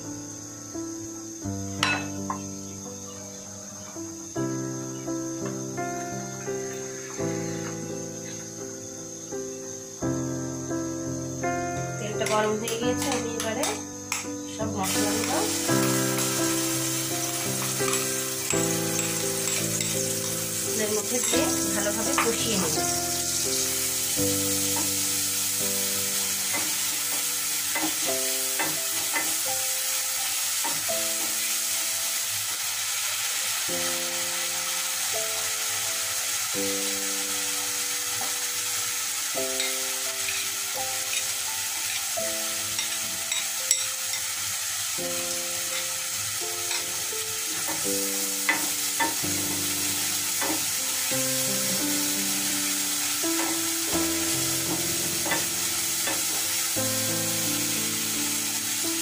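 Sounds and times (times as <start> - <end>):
soft background music: 0.0 - 59.0
spices sizzling in hot oil: 0.0 - 59.0.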